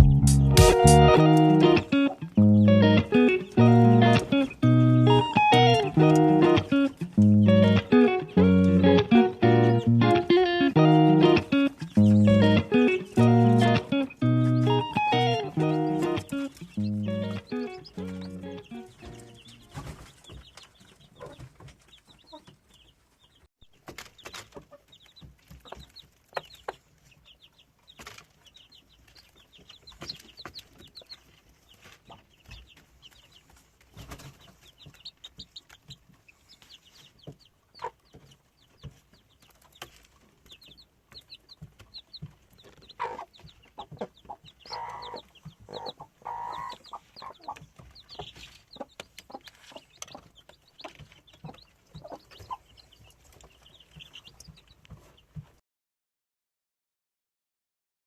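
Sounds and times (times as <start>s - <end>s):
hen clucking: 0.0s - 23.4s, 24.2s - 55.3s
chicks peeping: 0.0s - 55.5s.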